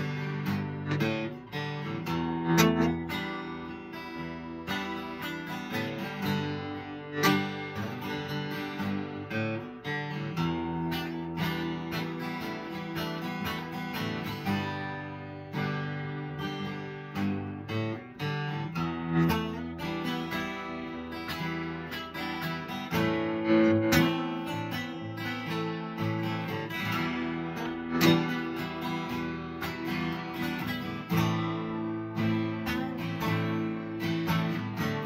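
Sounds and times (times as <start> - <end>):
acoustic guitars strumming: 0.0 - 35.0.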